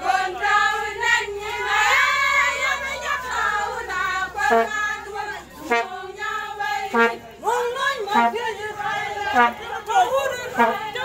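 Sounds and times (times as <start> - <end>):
women singing together: 0.0 - 11.0.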